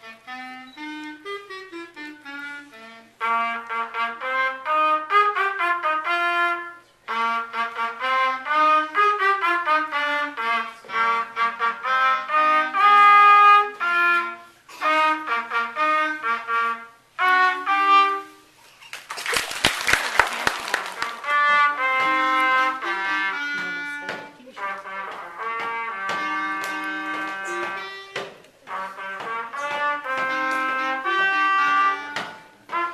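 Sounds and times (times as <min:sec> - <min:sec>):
saxophone duet: 0:00.0 - 0:18.8, 0:21.0 - 0:32.9.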